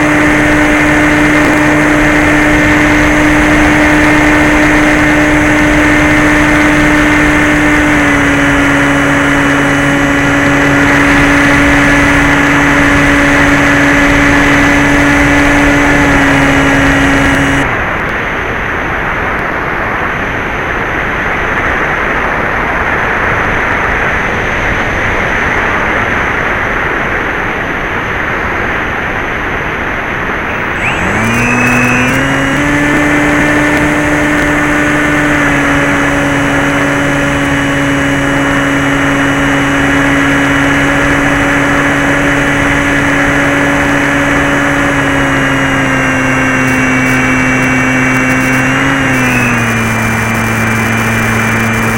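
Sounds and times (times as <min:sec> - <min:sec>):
model airplane motor and propeller: 0:00.0 - 0:51.9.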